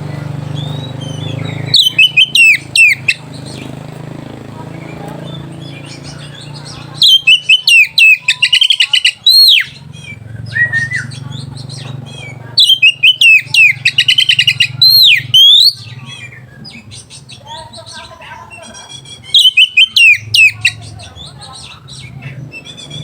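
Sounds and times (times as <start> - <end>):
magpie-robin whistled song: 0.0 - 3.9, 4.6 - 23.0
quiet bird twittering: 0.0 - 23.0
steady low hum: 0.0 - 23.0.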